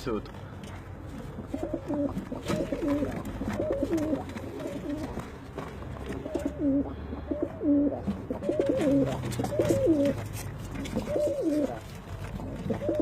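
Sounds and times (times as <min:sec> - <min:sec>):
doves cooing: 0:01.1 - 0:13.0.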